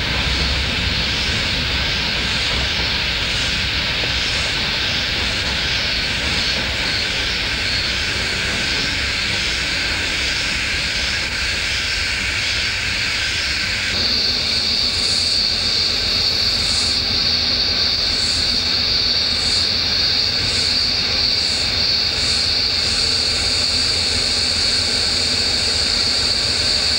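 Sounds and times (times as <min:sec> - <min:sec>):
diesel locomotive rumble: 0:00.0 - 0:26.9
pulsing buzz: 0:00.0 - 0:26.9
shrill cicada chorus: 0:00.0 - 0:26.9.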